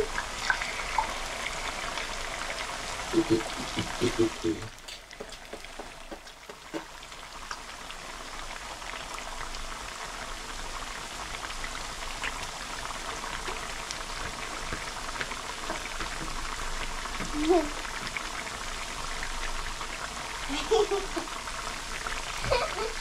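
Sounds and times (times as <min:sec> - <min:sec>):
potatoes deep-frying in oil: 0:00.0 - 0:23.0.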